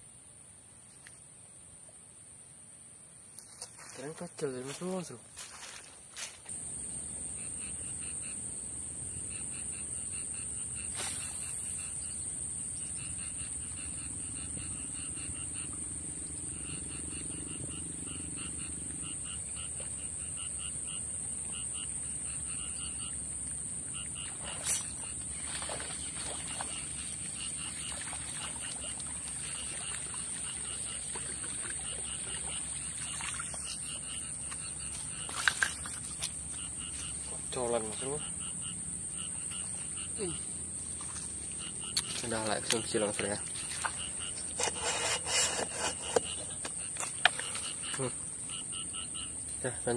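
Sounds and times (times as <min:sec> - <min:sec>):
high-pitched insect drone: 0:04.7 - 0:49.9.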